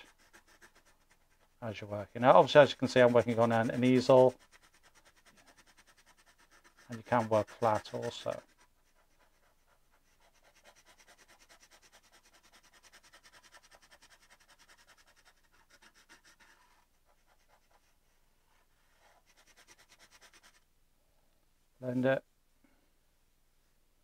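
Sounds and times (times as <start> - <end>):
charcoal pencil scratching on canvas: 0.0 - 20.6.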